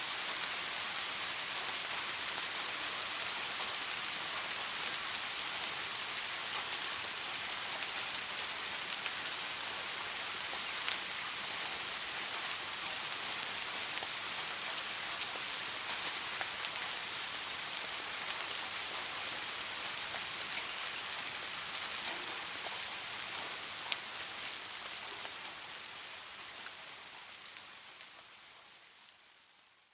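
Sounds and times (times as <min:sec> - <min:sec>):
soft steady rain: 0:00.0 - 0:29.9.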